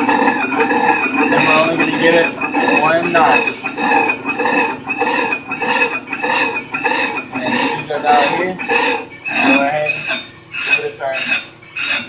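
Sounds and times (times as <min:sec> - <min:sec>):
lathe bit scraping metal drum: 0:00.0 - 0:12.0.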